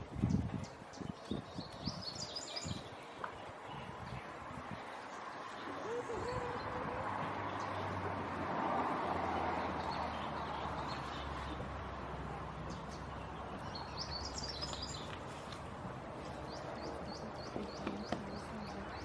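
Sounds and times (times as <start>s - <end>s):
birds chirping: 0.0s - 8.3s, 8.9s - 19.0s
outdoor background noise: 0.0s - 19.0s.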